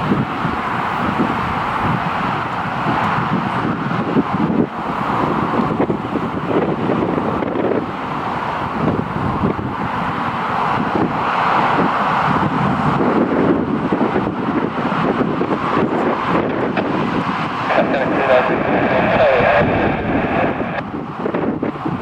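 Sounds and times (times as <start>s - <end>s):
aircraft engines rumbling: 0.0s - 22.0s
wind buffeting microphone: 0.0s - 22.0s.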